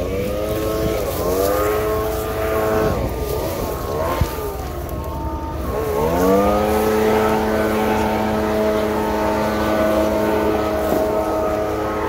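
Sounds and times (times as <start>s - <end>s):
leaf blower engine revving: 0.0s - 12.0s.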